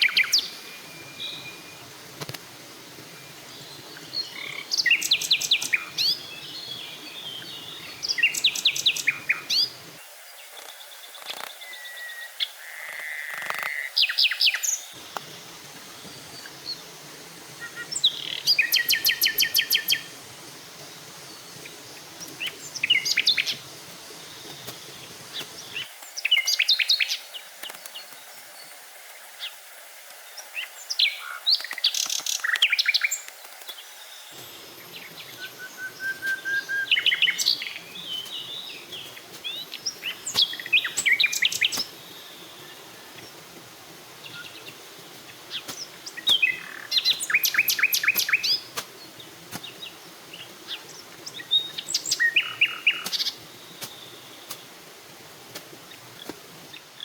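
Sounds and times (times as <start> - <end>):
birds singing: 0.0 - 1.9, 3.1 - 12.8, 13.6 - 28.8, 30.4 - 54.8
faint background hiss: 0.0 - 57.0.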